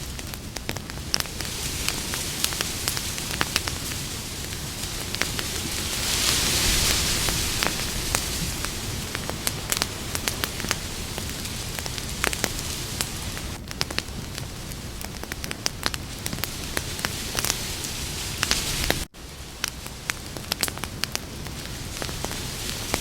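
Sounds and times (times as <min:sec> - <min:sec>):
campfire crackling and popping: 0:00.0 - 0:23.0
low rumble of flame: 0:00.0 - 0:23.0.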